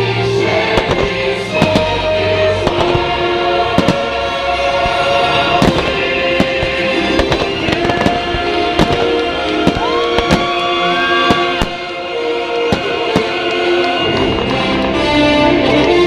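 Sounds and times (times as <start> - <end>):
fireworks exploding: 0.0 - 16.0
music with sustained notes: 0.0 - 16.0.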